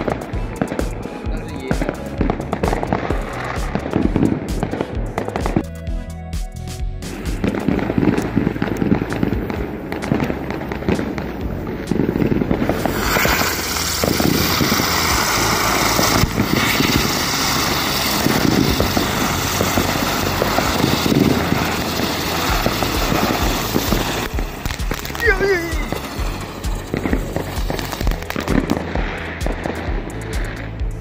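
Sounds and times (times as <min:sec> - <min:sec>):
fireworks hissing and crackling: 0:00.0 - 0:05.7, 0:06.5 - 0:31.0.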